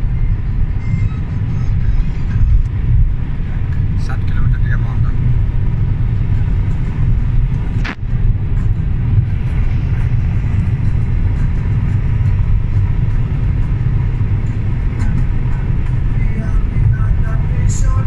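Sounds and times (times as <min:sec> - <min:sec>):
car cabin road rumble: 0:00.0 - 0:18.0.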